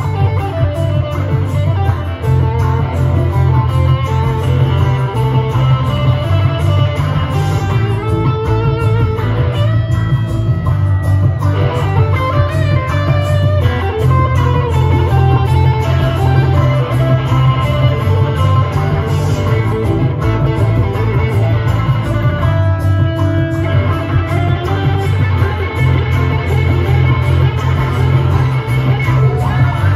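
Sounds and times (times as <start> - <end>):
amplified acoustic guitar: 0.0 - 29.9.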